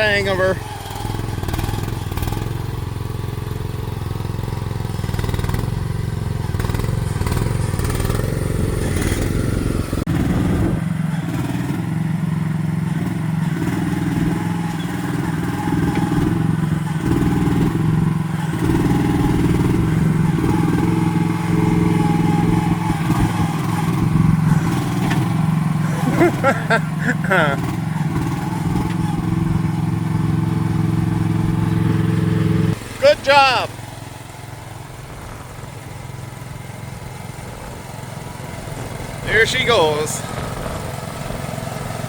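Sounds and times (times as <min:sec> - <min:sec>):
excavator engine running: 0:00.0 - 0:42.0.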